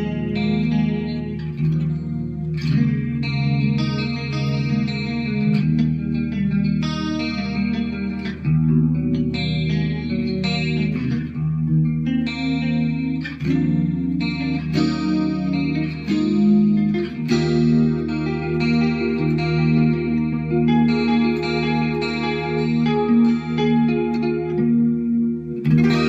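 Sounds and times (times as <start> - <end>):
clean electric guitar chords: 0.0 - 26.0.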